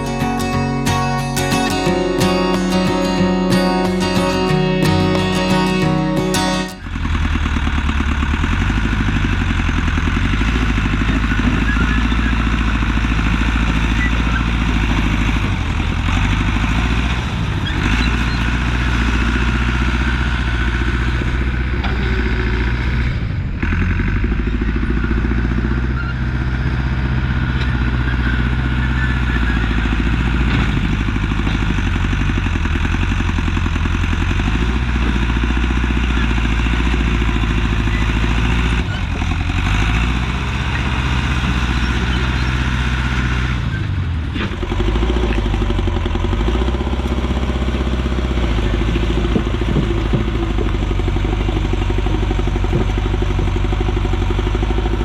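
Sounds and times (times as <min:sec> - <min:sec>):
track loader engine revving: 0:00.0 - 0:55.0.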